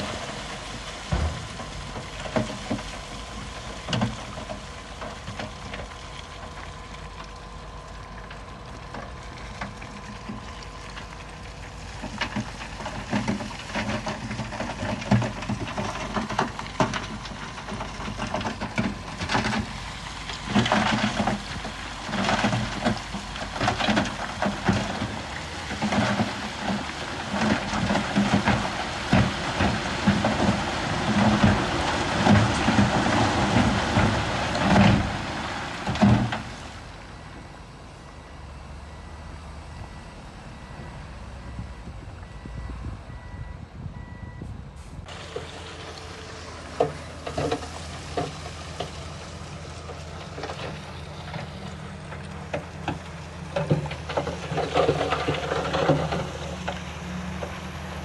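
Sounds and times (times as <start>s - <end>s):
rock clattering and crunching: 0.0s - 7.4s, 8.2s - 36.8s, 45.0s - 58.0s
heavy machine engine running: 0.0s - 58.0s.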